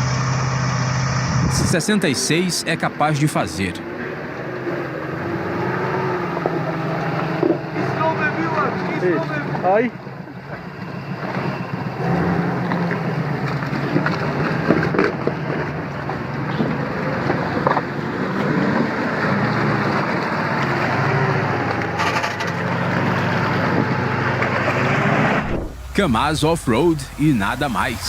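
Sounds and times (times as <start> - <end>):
heavy truck engine droning: 0.0 - 28.0.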